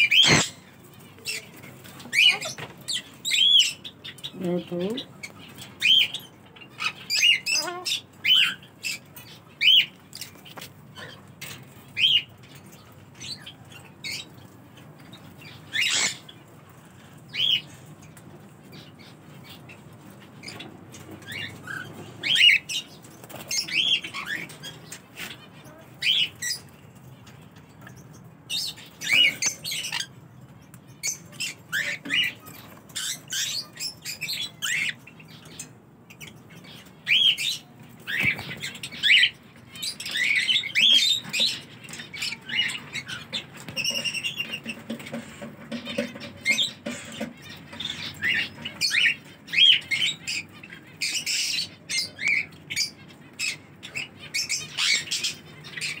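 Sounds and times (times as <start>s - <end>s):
parrots chirping and squawking: 0.0s - 56.0s.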